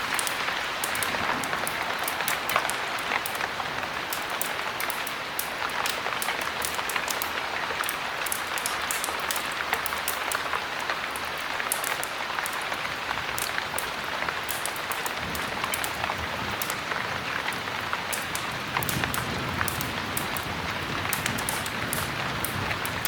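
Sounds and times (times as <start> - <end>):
heavy rain: 0.0 - 23.0
wood fire crackling and popping: 0.0 - 23.0.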